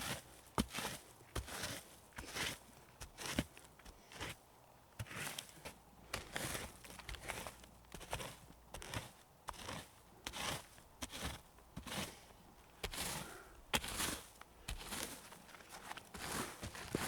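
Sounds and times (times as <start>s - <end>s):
footsteps crunching on forest floor: 0.0s - 4.4s, 5.0s - 17.0s.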